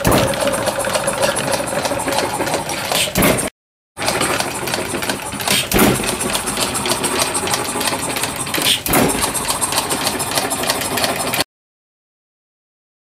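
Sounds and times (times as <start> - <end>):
small engine mechanical clatter: 0.0 - 11.5.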